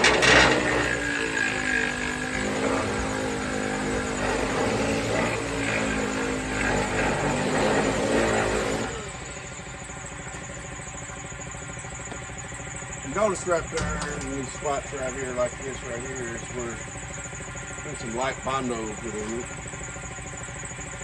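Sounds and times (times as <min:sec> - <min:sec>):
power sander on metal: 0:00.0 - 0:10.5, 0:13.1 - 0:20.4.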